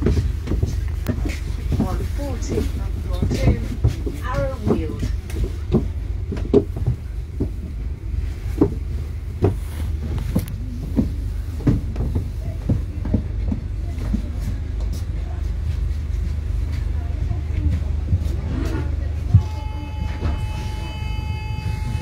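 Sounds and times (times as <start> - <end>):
bus engine rumble: 0.0 - 22.0.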